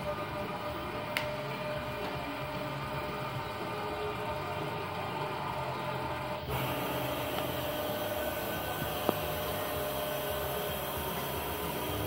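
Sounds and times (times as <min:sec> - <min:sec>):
milling machine humming: 0:00.0 - 0:12.0.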